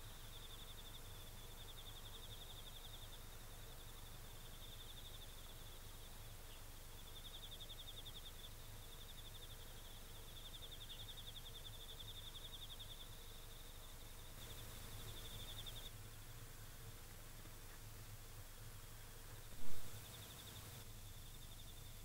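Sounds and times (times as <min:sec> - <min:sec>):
cricket trilling: 0:00.0 - 0:16.3, 0:19.6 - 0:22.0.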